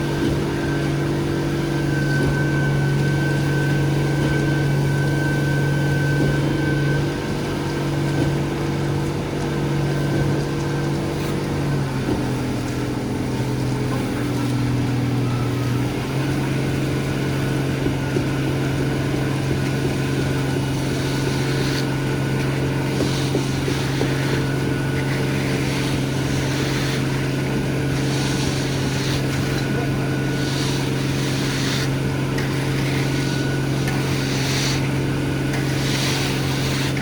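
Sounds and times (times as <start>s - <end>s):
diesel truck engine running: 0.0s - 37.0s.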